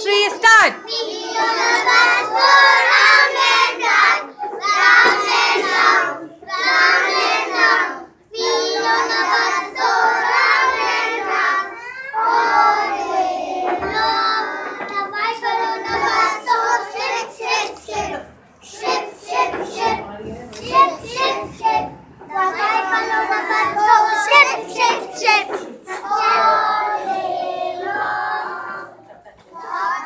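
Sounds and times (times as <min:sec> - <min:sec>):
children singing: 0:00.8 - 0:30.0.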